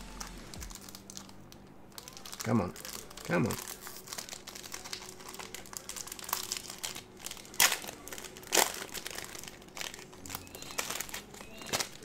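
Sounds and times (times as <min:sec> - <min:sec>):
sharp wrapper crackles: 0:00.0 - 0:12.0
wrapper crinkling: 0:00.0 - 0:12.0.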